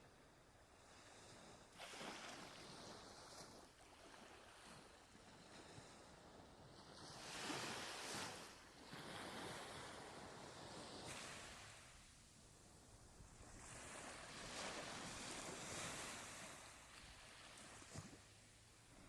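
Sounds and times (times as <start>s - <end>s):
faint ocean waves washing in: 0.9s - 19.0s.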